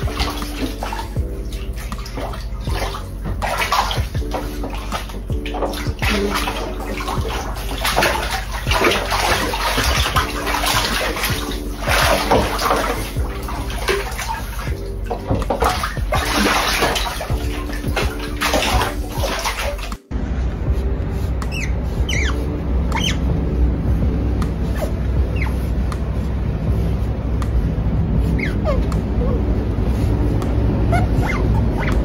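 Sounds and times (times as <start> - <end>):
background music: 0.0 - 32.0
otters splashing water: 0.0 - 32.0.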